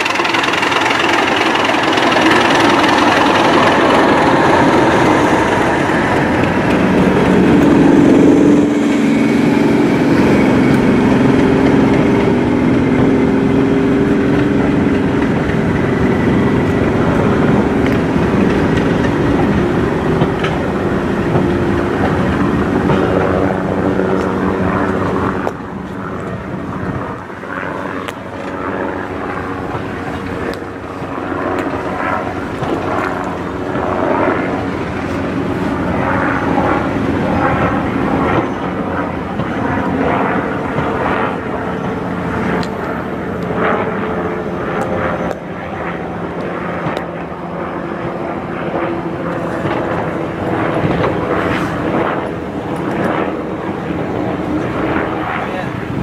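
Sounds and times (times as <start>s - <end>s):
diesel locomotive engine running hard: 0.0s - 56.0s
train coaches rolling by: 0.0s - 56.0s.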